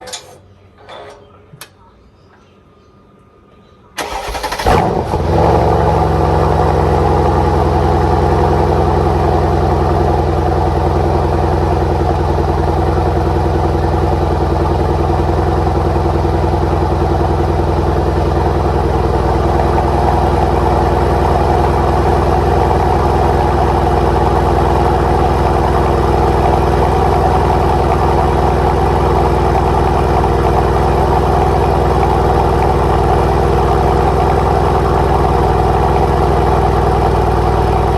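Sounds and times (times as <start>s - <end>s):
car engine starting and idling: 4.0s - 37.9s.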